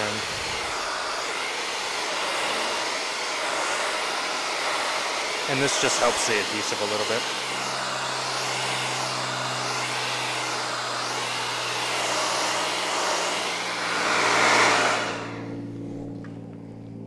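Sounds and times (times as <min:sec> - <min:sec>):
hair dryer blowing: 0:00.0 - 0:16.5.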